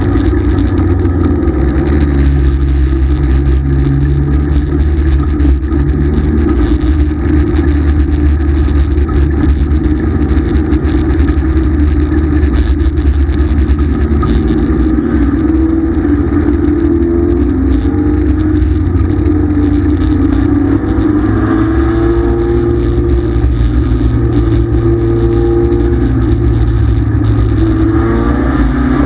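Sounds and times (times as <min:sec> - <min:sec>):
race car engine running: 0:00.0 - 0:29.0.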